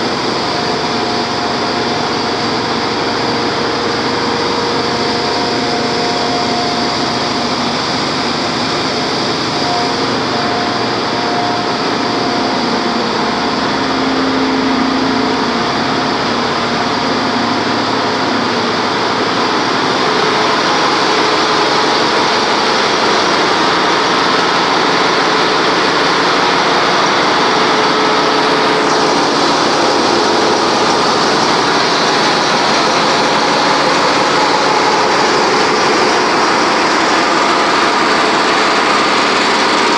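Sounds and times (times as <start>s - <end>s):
engine room machinery din: 0.0s - 39.9s
steady whining tones: 0.0s - 39.9s.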